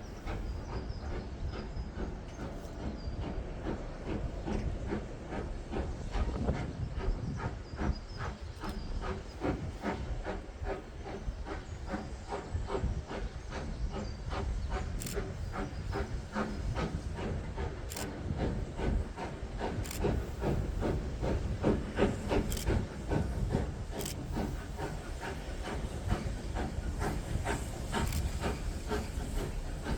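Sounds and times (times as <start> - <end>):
steam hissing: 0.0 - 29.9
steam locomotive exhaust beats: 0.0 - 29.9.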